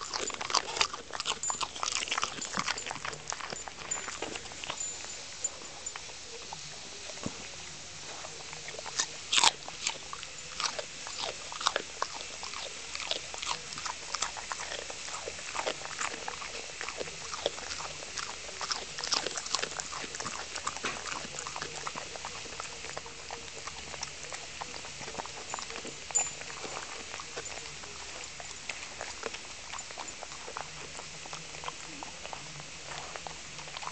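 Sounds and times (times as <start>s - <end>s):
dog crunching a broccoli stem: 0.0s - 33.9s.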